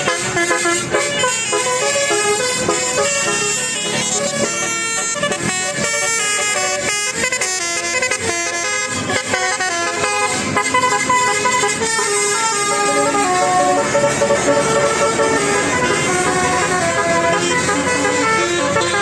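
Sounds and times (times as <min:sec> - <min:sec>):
musical bus horn melody: 0:00.0 - 0:19.0.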